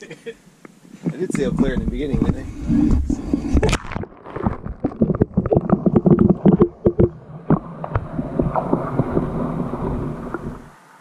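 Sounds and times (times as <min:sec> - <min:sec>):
water sloshing: 0:00.8 - 0:10.7
muffled underwater rush: 0:00.8 - 0:11.0.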